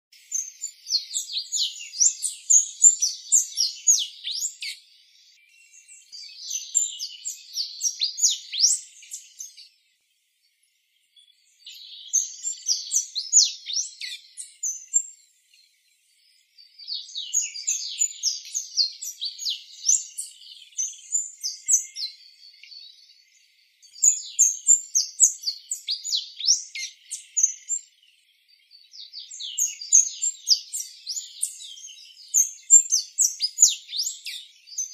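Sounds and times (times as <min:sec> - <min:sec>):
bird singing high chips and twitters: 0:00.2 - 0:09.8, 0:11.3 - 0:15.3, 0:16.2 - 0:28.2, 0:28.8 - 0:34.9.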